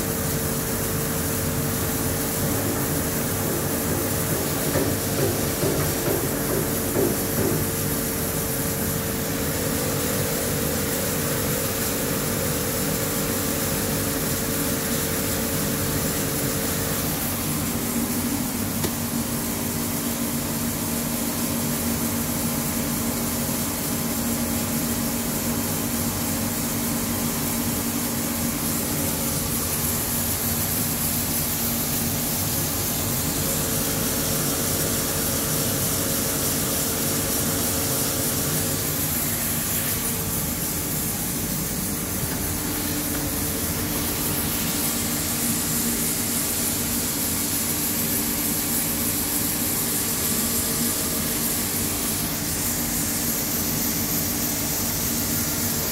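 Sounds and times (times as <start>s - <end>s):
coolant spraying hiss: 0.0s - 55.9s.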